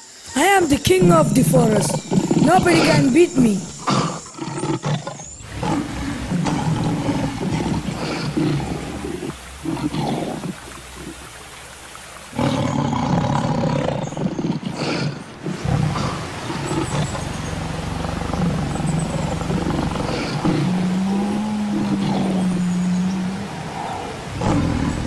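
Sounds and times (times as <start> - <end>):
big cat roaring and growling: 3.7 - 11.2, 12.3 - 25.0.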